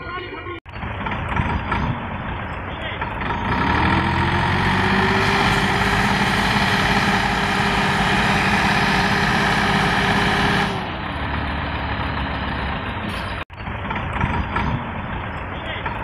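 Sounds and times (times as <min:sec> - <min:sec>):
tractor diesel engine under load: 0:00.7 - 0:16.0.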